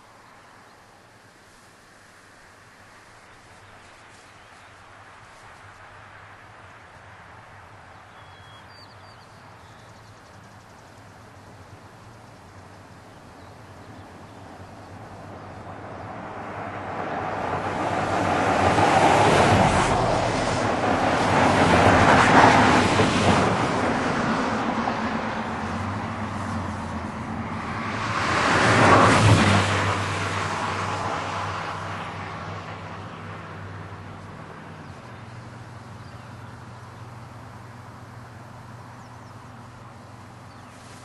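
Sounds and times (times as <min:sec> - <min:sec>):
vehicles passing on road: 0:00.0 - 0:41.0
low engine hum: 0:07.8 - 0:41.0.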